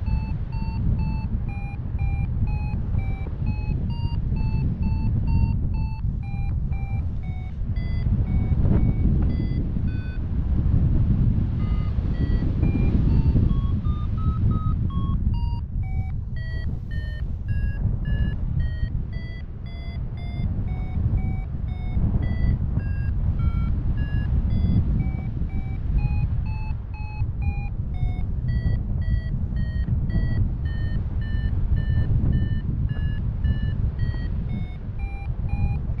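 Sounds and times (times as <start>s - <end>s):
heavy wind rush: 0.0s - 36.0s
variometer beeping: 0.0s - 36.0s.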